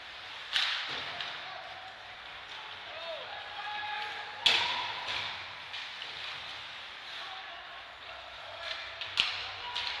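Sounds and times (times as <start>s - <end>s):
arena noise: 0.0s - 10.0s.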